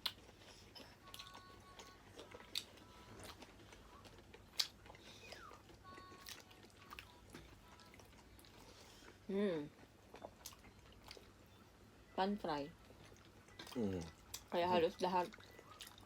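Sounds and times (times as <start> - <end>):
chewing seafood: 0.0 - 11.9, 12.7 - 16.0.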